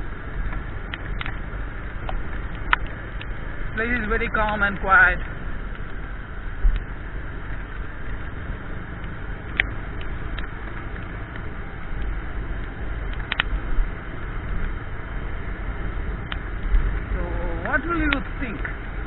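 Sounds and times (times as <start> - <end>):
motorbike rumble: 0.0 - 19.0
wind and road noise: 0.0 - 19.0.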